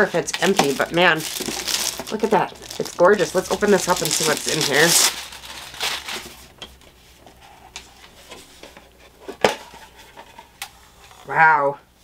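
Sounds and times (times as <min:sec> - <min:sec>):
soft plastic rustles: 0:00.0 - 0:11.3.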